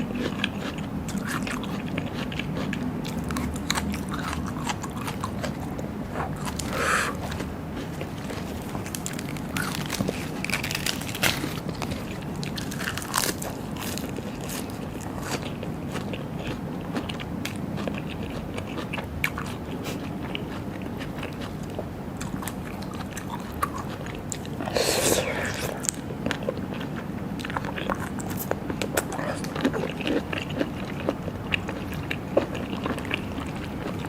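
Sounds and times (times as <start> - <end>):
person chewing and crunching food: 0.0 - 34.0.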